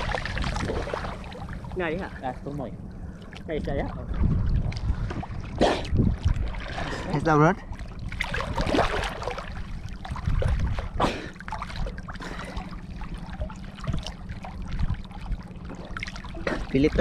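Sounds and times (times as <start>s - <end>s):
seawater splashing and sloshing: 0.0s - 17.0s
steady low rumble: 0.0s - 17.0s.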